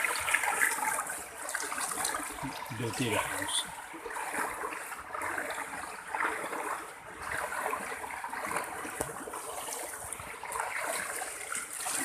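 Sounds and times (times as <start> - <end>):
floodwater rushing and splashing: 0.0 - 12.0.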